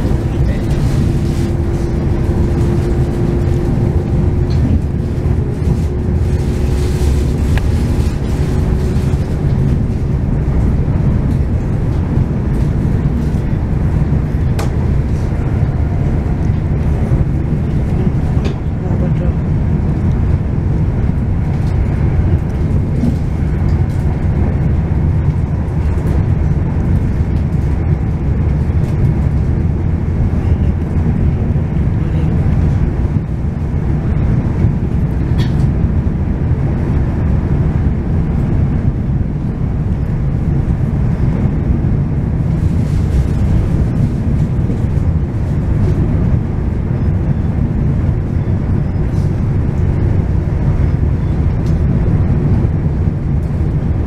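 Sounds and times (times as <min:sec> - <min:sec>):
train rumbling on board: 0:00.0 - 0:54.0.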